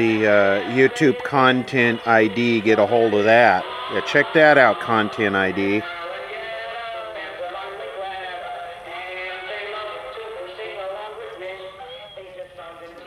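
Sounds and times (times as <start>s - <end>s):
song from small tape speaker: 0.0s - 13.0s.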